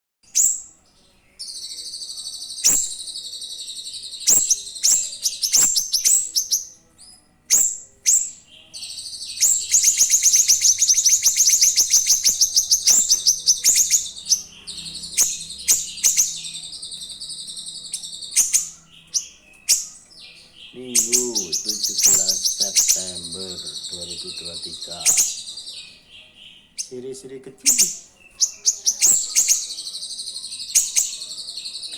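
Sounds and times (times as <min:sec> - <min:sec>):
songbird singing: 0:00.2 - 0:31.9.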